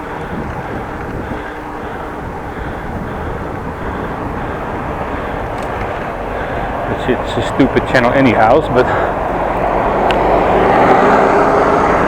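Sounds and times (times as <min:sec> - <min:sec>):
bicycle rolling noise: 0:00.0 - 0:12.0
wind while cycling: 0:00.0 - 0:12.0.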